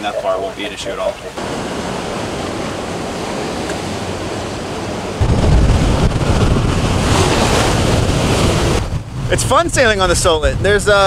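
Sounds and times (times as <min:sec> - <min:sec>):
choppy water rushing: 0:00.0 - 0:10.1
wind: 0:00.0 - 0:11.0
wind buffeting microphone: 0:01.2 - 0:11.0.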